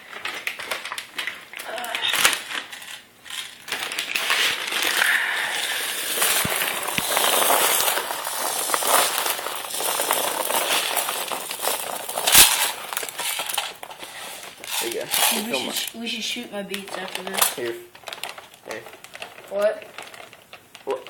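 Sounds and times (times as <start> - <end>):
plastic pellets rattling in bag: 0.0 - 21.0.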